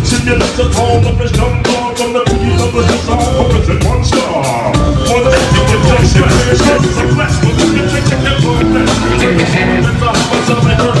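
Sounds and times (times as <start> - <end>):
drum kit beat: 0.0 - 11.0
live hip hop band: 0.0 - 11.0
person rapping into a microphone: 0.0 - 11.0.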